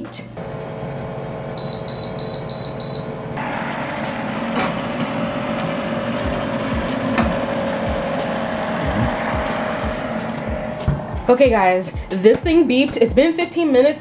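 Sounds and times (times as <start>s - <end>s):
oven humming: 0.0s - 12.2s
oven beeping: 0.4s - 11.6s.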